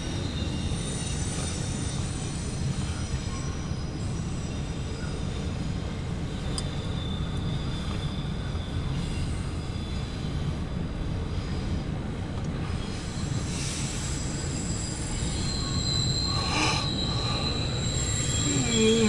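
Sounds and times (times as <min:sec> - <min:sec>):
high wheel squeal: 0:00.0 - 0:10.6, 0:12.7 - 0:19.0
train wheels rumbling on rail: 0:00.0 - 0:19.0.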